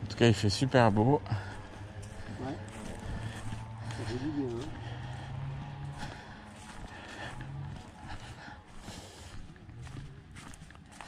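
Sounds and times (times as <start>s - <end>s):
footsteps on hard path: 0.0s - 11.0s.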